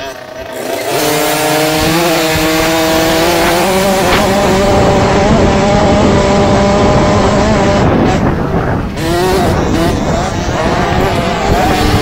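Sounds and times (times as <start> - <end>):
motocross bike engine accelerating: 0.0 - 12.0
wind rushing past microphone: 0.9 - 12.0.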